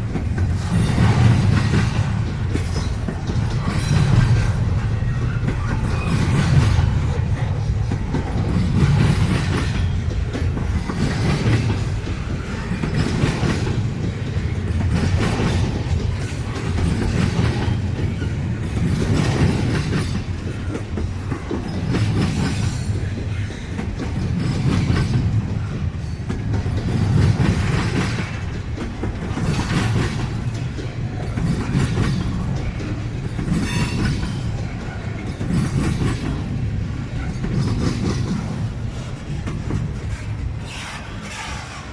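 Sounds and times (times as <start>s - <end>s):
clickety-clack of train wheels: 0.0s - 41.9s
train cars rumbling past: 0.0s - 41.9s.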